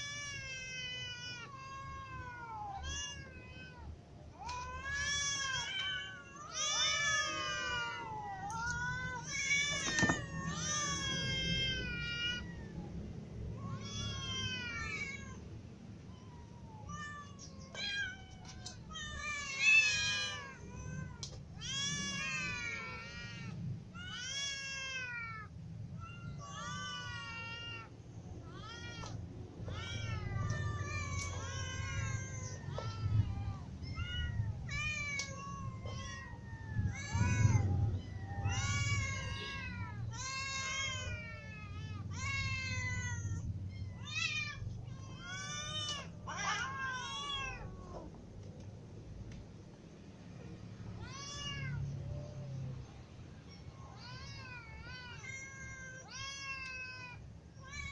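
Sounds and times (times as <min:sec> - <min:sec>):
cats meowing: 0:00.0 - 0:48.8, 0:50.4 - 0:57.9.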